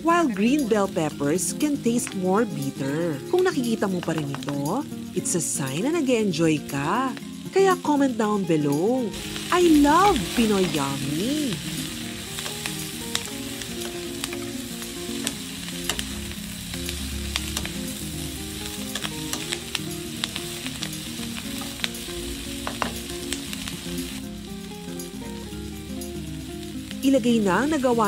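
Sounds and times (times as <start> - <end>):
food sizzling in a wok: 0.0 - 28.0.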